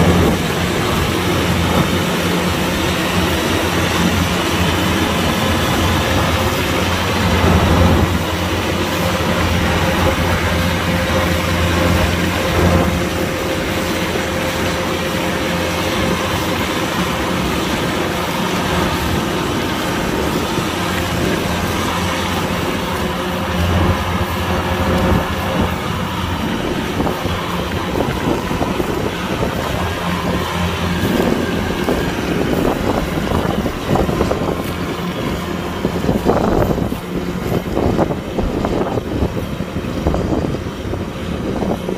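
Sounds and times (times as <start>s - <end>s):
combine harvester engine running: 0.0s - 41.9s.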